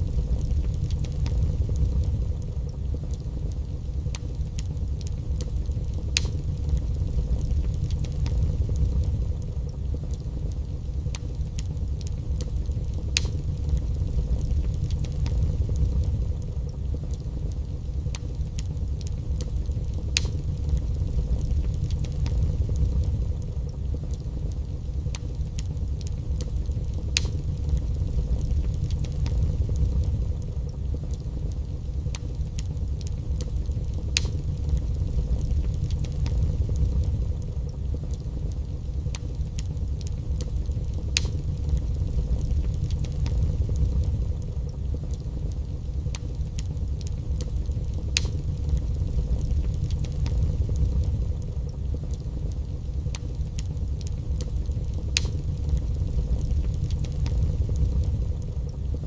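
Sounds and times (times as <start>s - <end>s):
fire crackling and popping: 0.0s - 59.0s
fire low rumble: 0.0s - 59.0s.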